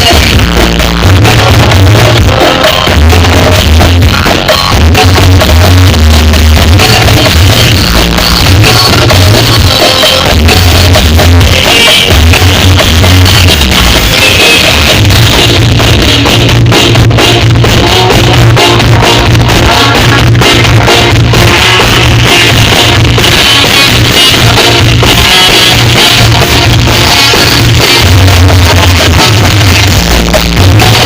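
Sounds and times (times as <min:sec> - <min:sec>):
loud distorted bass-heavy music: 0:00.0 - 0:31.0.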